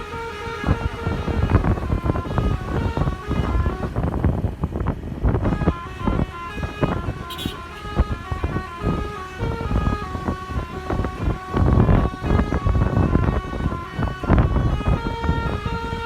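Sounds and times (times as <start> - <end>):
multi-tone air horn tune: 0.0 - 4.2, 5.4 - 16.0
low rumble and thumping: 0.0 - 16.0.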